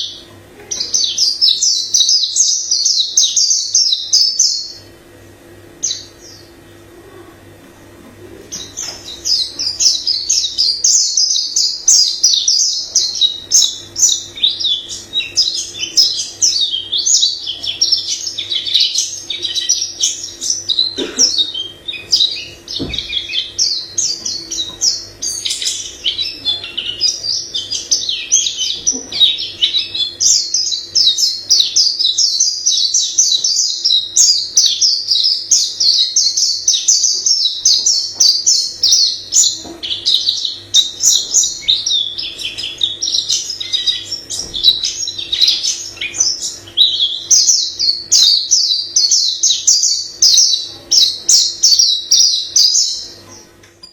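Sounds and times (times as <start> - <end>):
bird twittering song: 0.0 - 6.9, 8.4 - 53.9
faint steady hum: 0.0 - 53.9.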